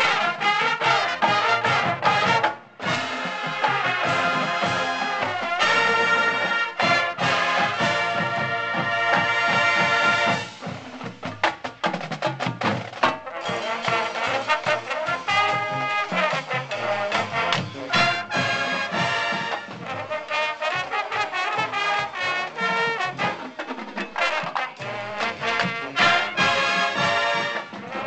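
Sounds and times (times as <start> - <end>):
brass section playing chords: 0.0 - 10.6, 13.2 - 23.6, 24.2 - 28.0
drum line: 0.0 - 28.0.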